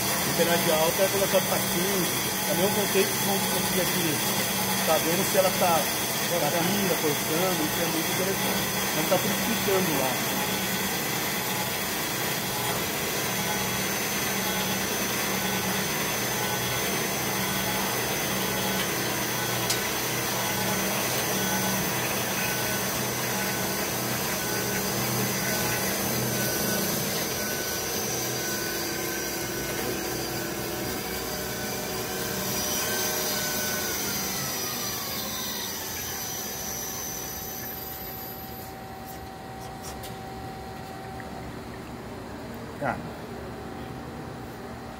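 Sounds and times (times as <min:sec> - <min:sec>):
band saw cutting metal bar: 0:00.0 - 0:38.7.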